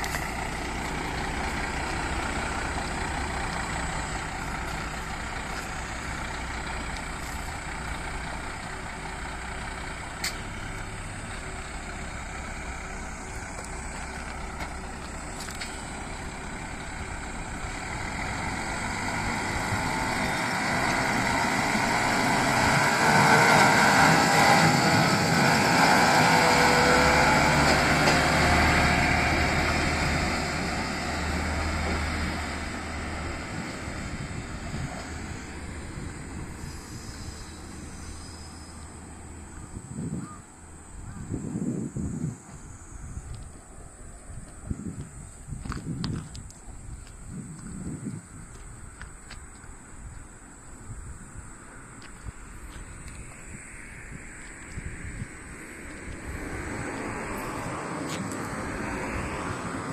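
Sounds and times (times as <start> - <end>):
diesel railcar engine hum: 0.0 - 59.9.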